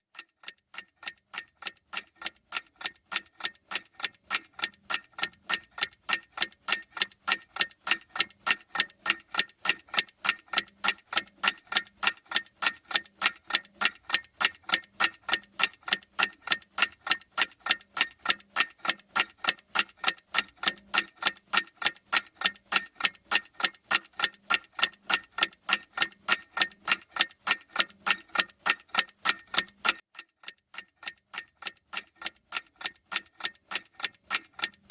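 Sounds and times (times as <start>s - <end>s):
clock ticking fast: 0.0s - 34.9s.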